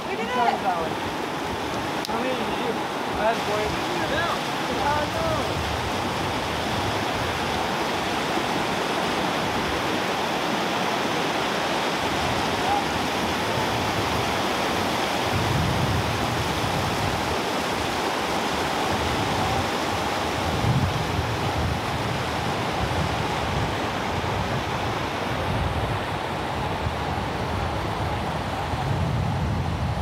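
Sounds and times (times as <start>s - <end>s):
river rushing over rocks: 0.0s - 30.0s.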